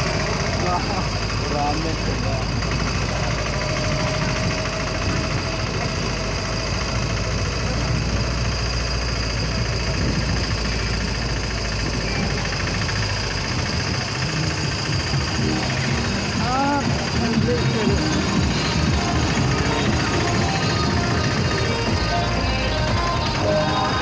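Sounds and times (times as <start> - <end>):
slow traffic noise: 0.0 - 24.0
vehicle engines running: 0.0 - 24.0.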